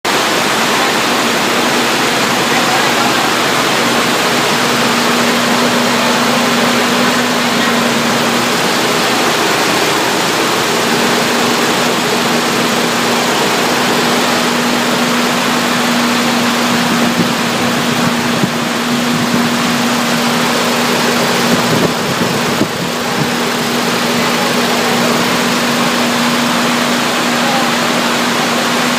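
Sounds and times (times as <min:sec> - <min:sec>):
car engine humming steadily: 0:00.0 - 0:28.9.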